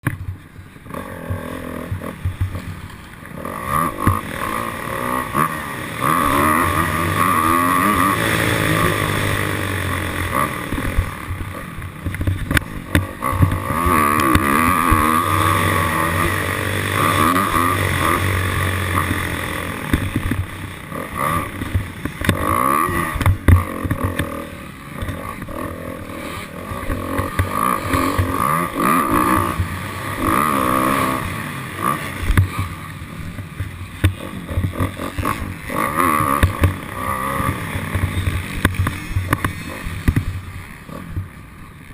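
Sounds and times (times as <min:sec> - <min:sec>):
dirt bike engine revving: 0:00.0 - 0:41.9
steady rushing noise: 0:00.0 - 0:41.9.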